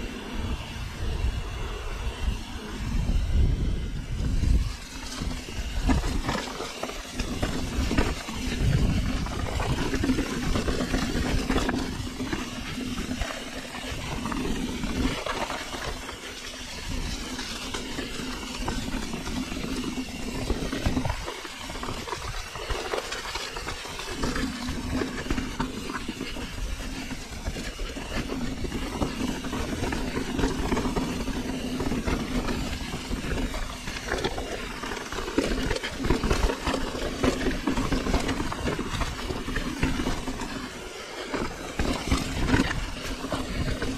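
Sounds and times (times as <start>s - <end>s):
steady hum: 0.0s - 43.9s
bike tyres crunching over stones: 4.2s - 43.9s
bike rattling and knocking: 4.4s - 43.9s.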